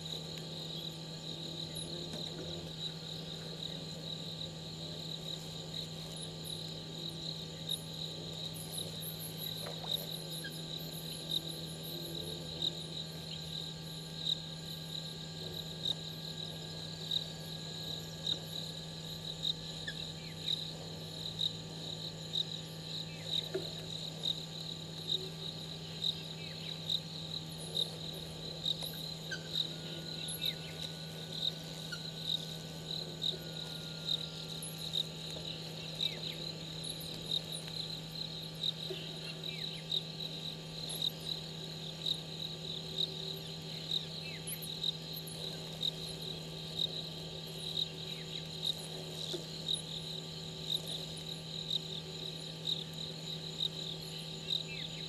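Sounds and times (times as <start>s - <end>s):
crickets trilling: 0.0s - 55.0s
low steady hum: 0.0s - 55.0s.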